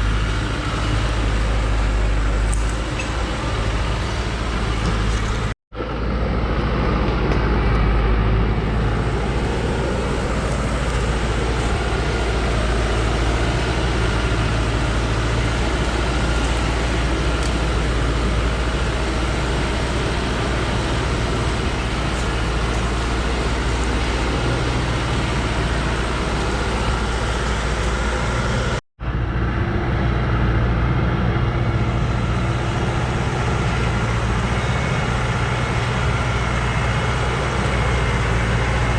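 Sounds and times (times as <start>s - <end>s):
road noise: 0.0s - 38.9s
truck engine droning: 0.0s - 38.9s.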